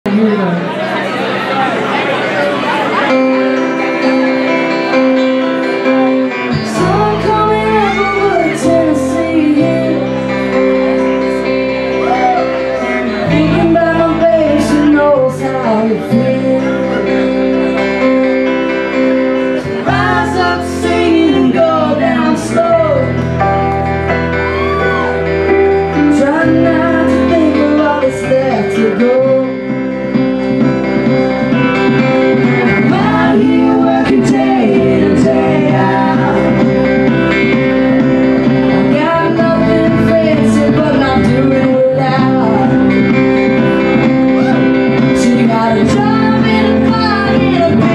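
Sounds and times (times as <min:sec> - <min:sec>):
sliding lead melody: 0:01.0 - 0:47.9
bass line: 0:02.8 - 0:47.9.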